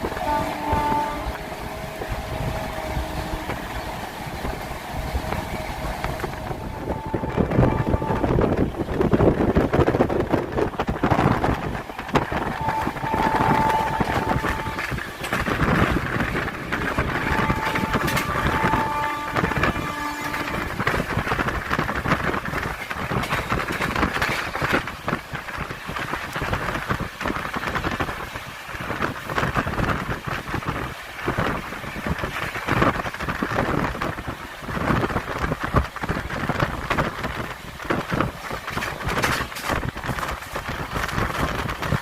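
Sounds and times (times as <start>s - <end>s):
train clattering knocks: 0.0s - 42.0s
train rushing and rumbling: 0.0s - 42.0s.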